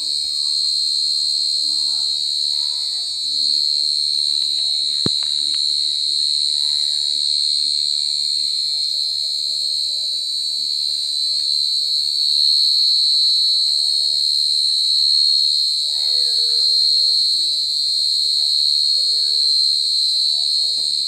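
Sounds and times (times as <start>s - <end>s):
cricket high-pitched trill: 0.0s - 21.0s.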